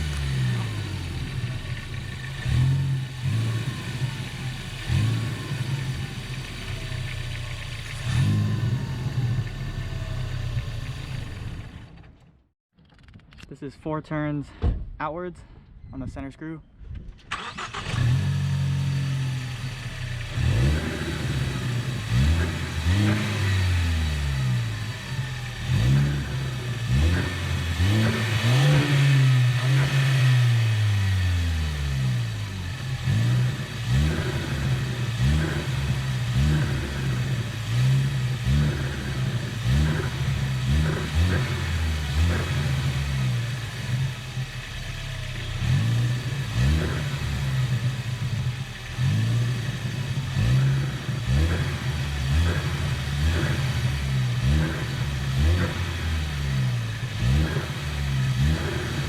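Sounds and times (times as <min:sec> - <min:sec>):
car engine revving: 0:00.0 - 0:12.1, 0:17.3 - 0:59.0.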